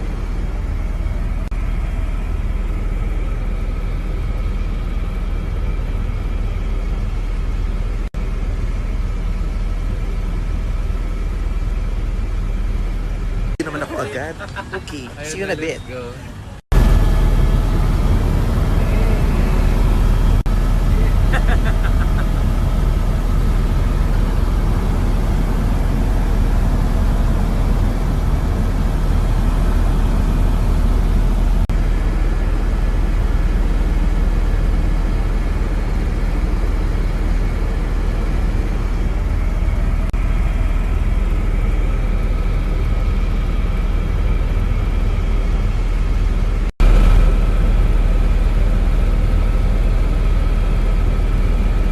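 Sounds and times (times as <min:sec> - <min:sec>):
helicopter rumbling in flight: 0:00.0 - 0:51.9.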